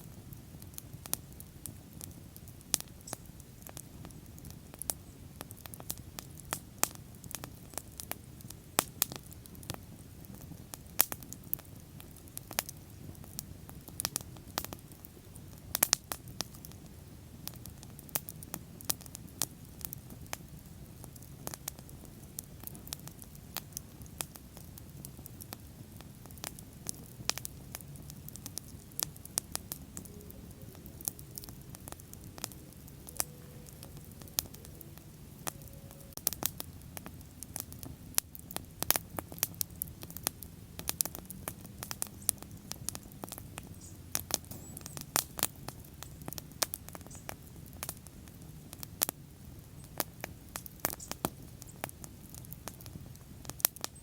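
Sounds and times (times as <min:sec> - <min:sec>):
soft rumble of flame: 0:00.0 - 0:54.0
wood fire crackling and popping: 0:00.0 - 0:54.0.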